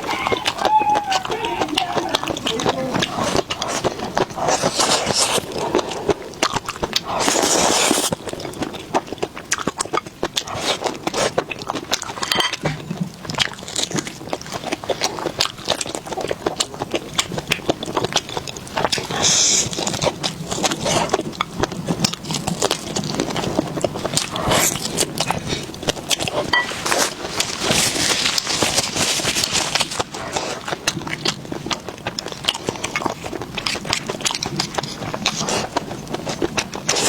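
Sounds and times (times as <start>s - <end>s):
biting and chewing: 0.0s - 37.0s.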